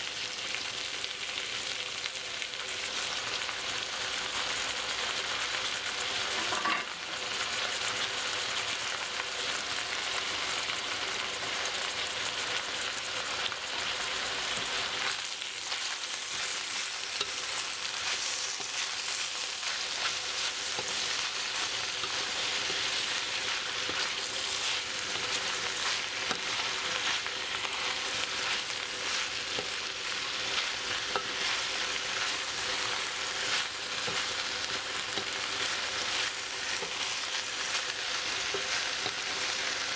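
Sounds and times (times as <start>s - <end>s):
food sizzling in a wok: 0.0s - 39.9s.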